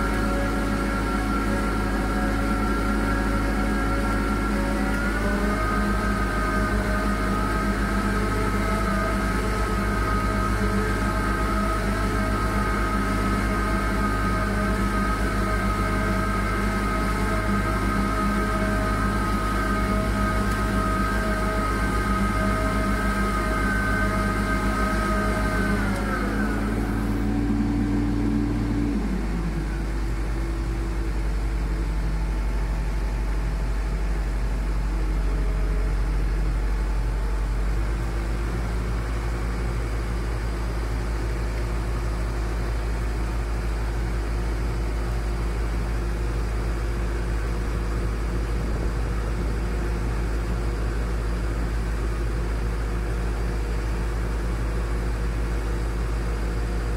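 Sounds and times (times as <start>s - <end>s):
stringing machine engine running: 0.0s - 56.9s.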